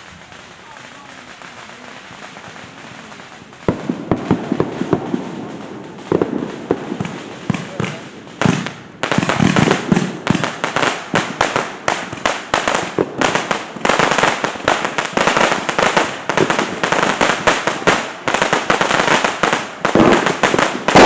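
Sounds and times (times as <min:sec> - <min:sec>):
crackling hiss: 0:00.0 - 0:21.0
fireworks cracking and popping: 0:00.0 - 0:21.0.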